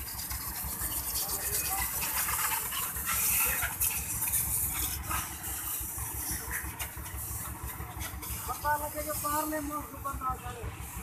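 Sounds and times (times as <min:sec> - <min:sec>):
hose water spraying: 0:00.0 - 0:11.0.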